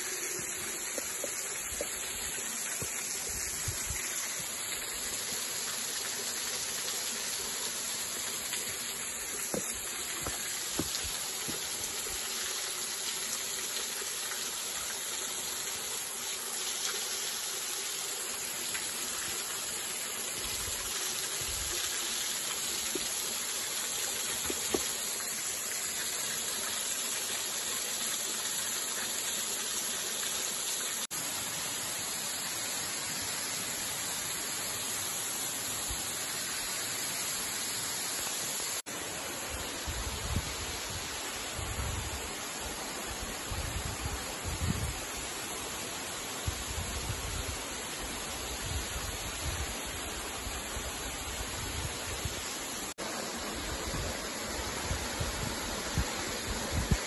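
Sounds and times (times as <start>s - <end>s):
waterfall splashing on rocks: 0.0s - 57.0s.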